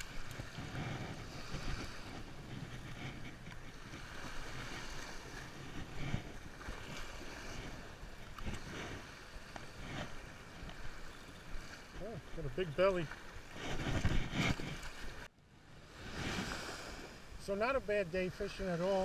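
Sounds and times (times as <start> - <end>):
wind buffeting microphone: 0.0 - 17.4
small waves washing onto shore: 0.0 - 19.0.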